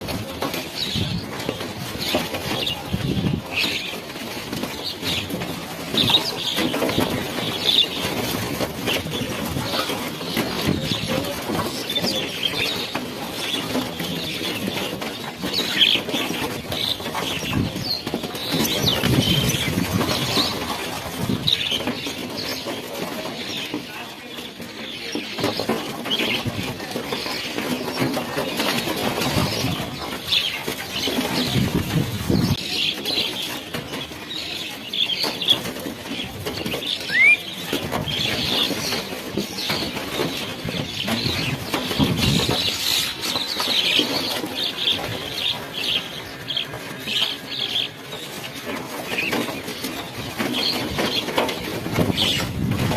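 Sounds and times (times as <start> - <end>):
wings fluttering: 0.0 - 52.9
birds calling: 0.1 - 52.9.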